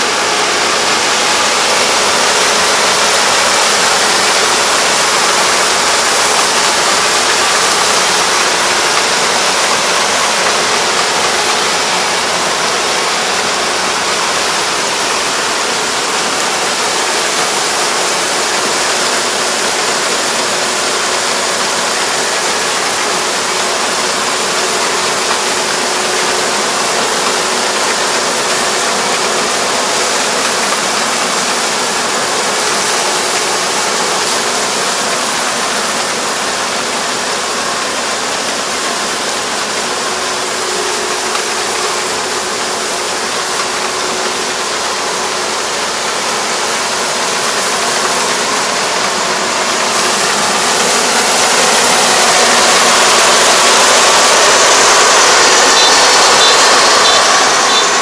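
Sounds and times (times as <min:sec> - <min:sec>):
combine harvester drone: 0:00.0 - 0:58.0.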